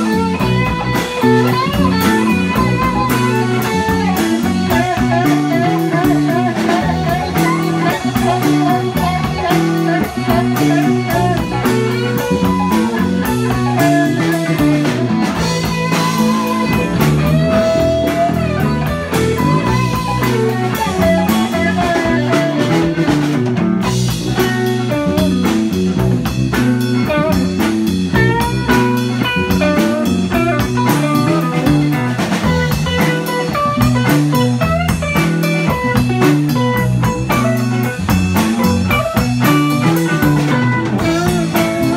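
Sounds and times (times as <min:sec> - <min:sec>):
bass guitar: 0:00.0 - 0:41.9
drum kit steady beat: 0:00.0 - 0:41.9
electric guitar lead: 0:00.0 - 0:41.9.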